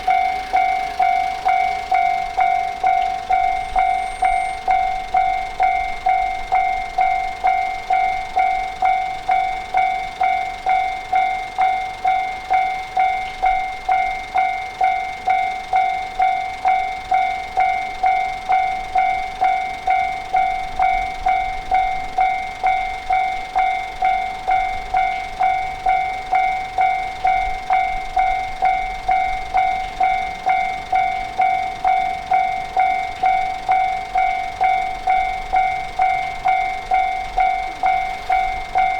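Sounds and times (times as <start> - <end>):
level crossing alarm clanging: 0.0 - 38.9.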